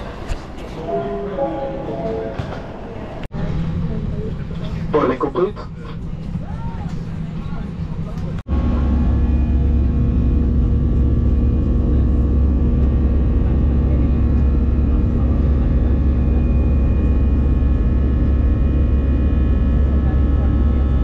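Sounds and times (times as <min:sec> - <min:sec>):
jet engine drone: 0:00.8 - 0:21.0.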